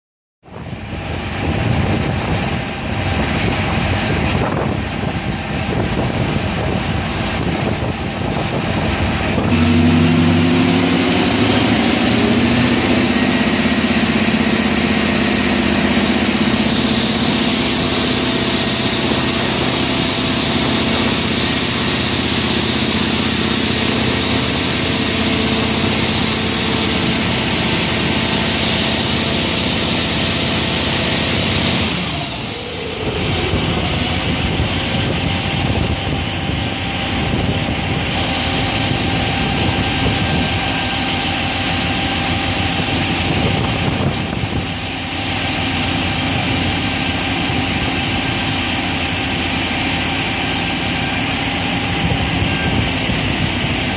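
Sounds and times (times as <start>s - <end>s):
fire truck engine running: 0.4s - 53.9s.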